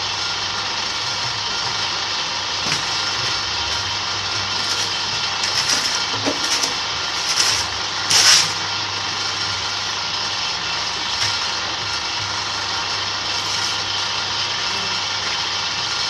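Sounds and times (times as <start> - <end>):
electric motor hum and mechanical din: 0.0 - 16.0.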